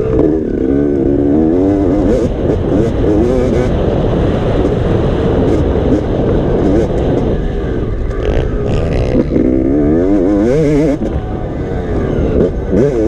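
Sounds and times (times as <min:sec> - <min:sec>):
steady low rumble: 0:00.0 - 0:12.8
dirt bike engine revving: 0:00.0 - 0:13.0.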